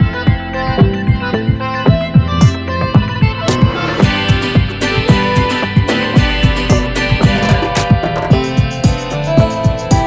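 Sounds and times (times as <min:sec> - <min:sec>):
deep kick drums: 0:00.0 - 0:10.0
electronic music: 0:00.0 - 0:10.0
sustained synth chords: 0:00.0 - 0:10.0.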